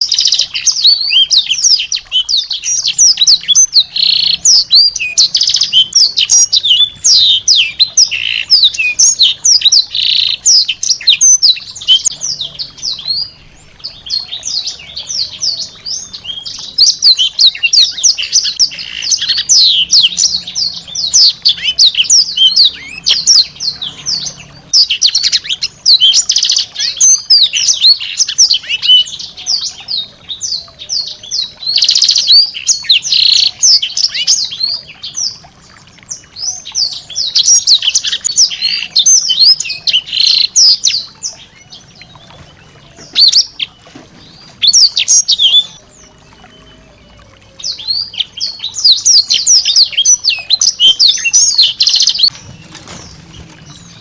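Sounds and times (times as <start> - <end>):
songbird singing high chirps: 0.0 - 54.0.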